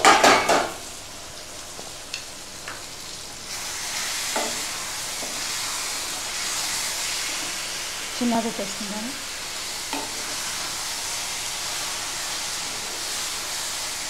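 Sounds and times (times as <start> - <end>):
curry sizzling in a pan: 0.0 - 14.0.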